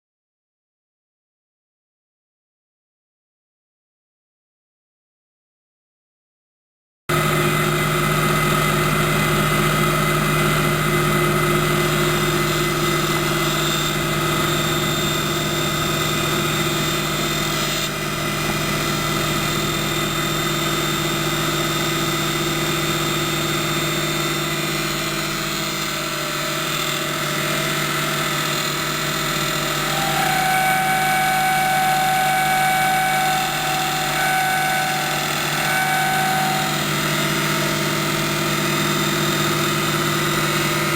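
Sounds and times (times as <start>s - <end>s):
high-pitched machine whine: 7.1s - 40.9s
lathe machine hum: 7.1s - 40.9s.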